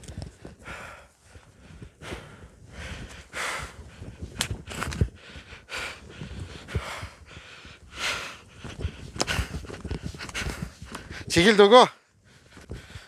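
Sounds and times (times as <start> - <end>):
man breathing hard: 0.0 - 11.3, 12.0 - 13.0.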